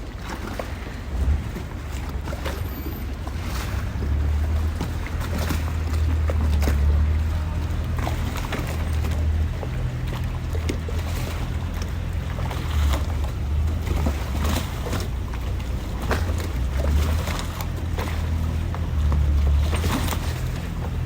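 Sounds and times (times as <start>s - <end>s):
water lapping against boat hulls: 0.0s - 21.0s.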